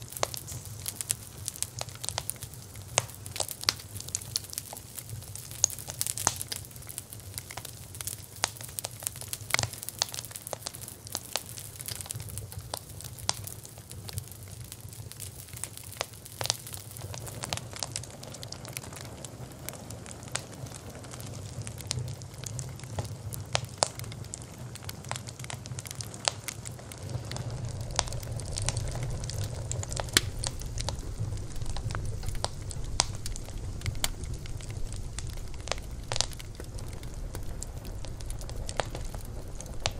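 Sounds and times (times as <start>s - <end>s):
burning wood crackling: 0.0s - 39.9s
low rumble of flame: 0.0s - 39.9s.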